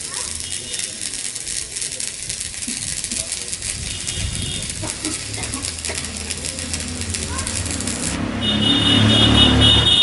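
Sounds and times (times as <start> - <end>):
welding arc crackling and sizzling: 0.0 - 10.0.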